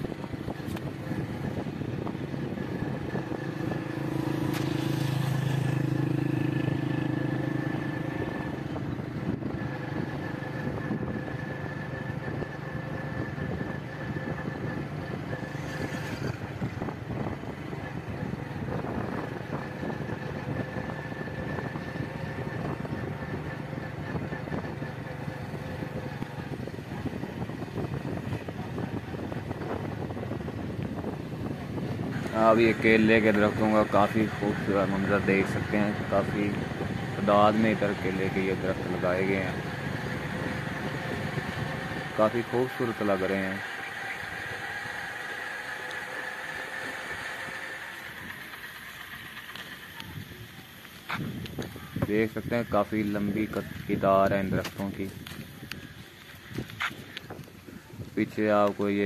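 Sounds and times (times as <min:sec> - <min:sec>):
motorbike engine running: 0:00.0 - 0:59.0.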